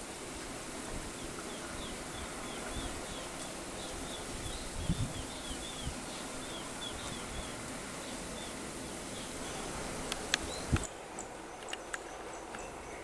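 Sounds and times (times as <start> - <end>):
outdoor hiss: 0.0 - 13.0
bird chirping: 1.1 - 9.7, 10.3 - 13.0.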